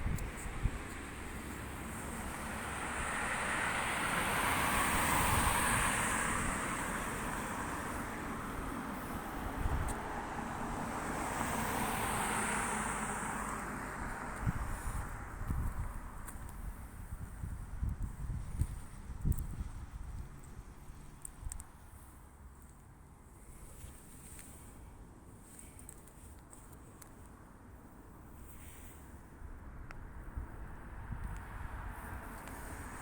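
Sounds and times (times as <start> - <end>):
vehicles passing with tyre noise: 0.0 - 33.0.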